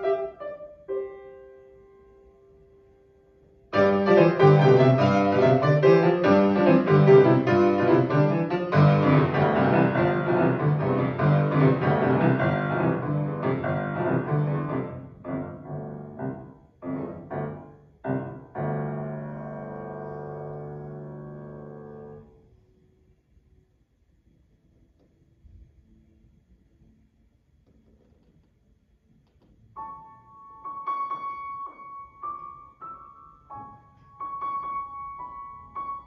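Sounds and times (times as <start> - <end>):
grand piano classical piece: 0.0 - 23.4, 27.7 - 36.0.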